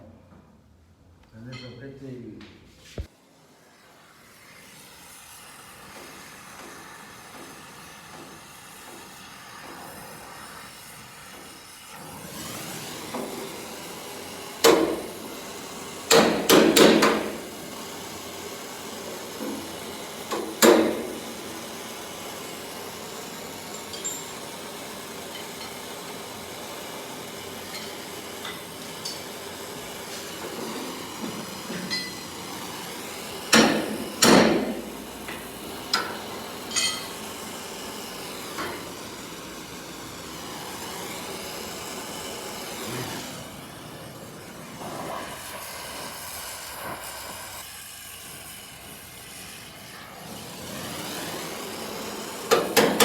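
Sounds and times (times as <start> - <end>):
gas torch hissing: 2.9 - 53.0.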